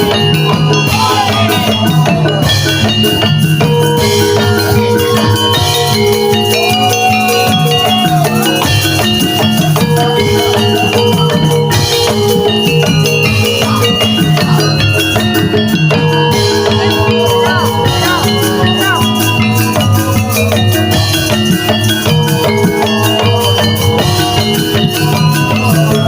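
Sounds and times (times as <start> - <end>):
drum pattern: 0.0 - 26.0
struck metallophones ringing: 0.0 - 26.0.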